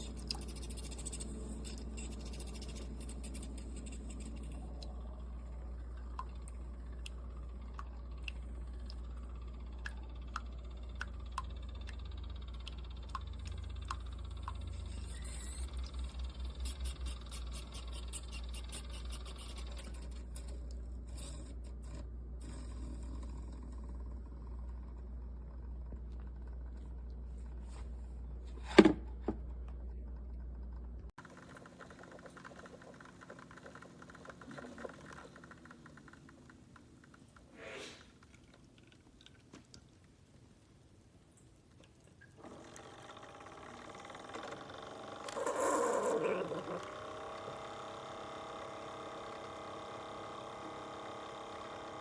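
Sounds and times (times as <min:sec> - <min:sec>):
coffee maker humming: 0:00.0 - 0:37.5, 0:42.4 - 0:52.0.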